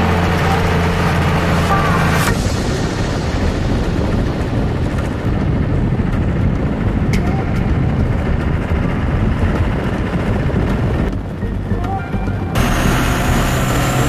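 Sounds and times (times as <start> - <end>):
trucks rumbling on street: 0.0 - 14.0.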